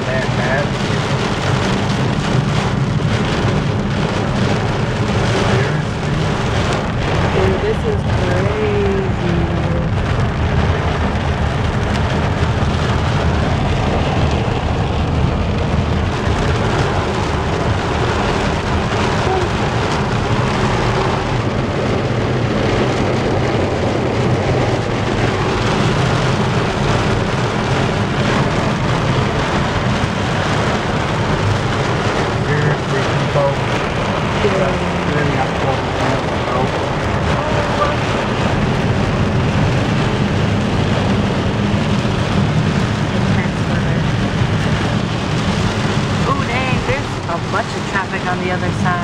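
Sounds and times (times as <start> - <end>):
heavy rain on car roof: 0.0 - 49.0
road and engine rumble: 0.0 - 49.0.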